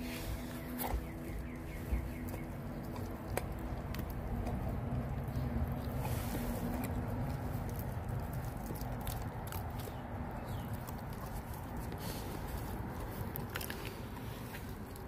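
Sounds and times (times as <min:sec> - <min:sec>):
puppies chewing and tearing fish: 0:00.0 - 0:15.0
sharp crunches and clicks: 0:00.0 - 0:15.0
steady low rumble: 0:00.0 - 0:15.0.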